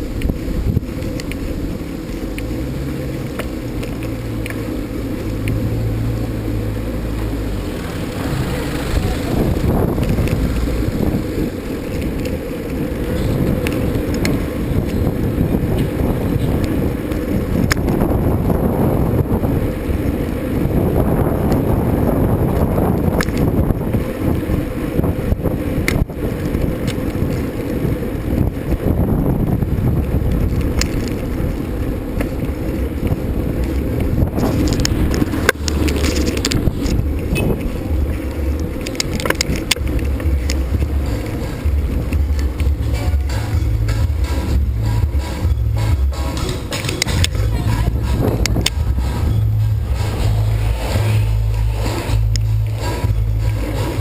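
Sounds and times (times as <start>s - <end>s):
sharp clicks and rattles: 0.0s - 20.4s, 21.4s - 54.0s
bicycle tyre and trail noise: 0.0s - 54.0s
wind buffeting microphone: 0.0s - 54.0s.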